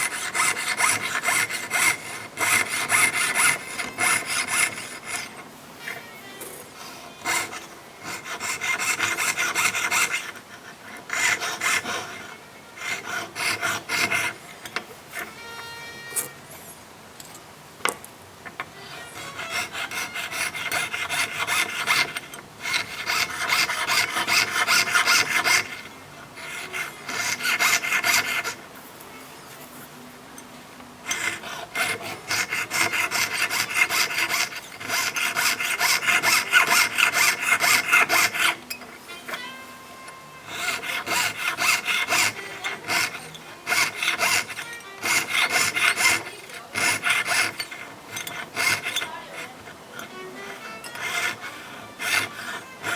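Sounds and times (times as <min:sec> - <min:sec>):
fret saw rasping on metal: 0:00.0 - 0:16.8, 0:18.4 - 0:28.7, 0:30.4 - 0:52.9.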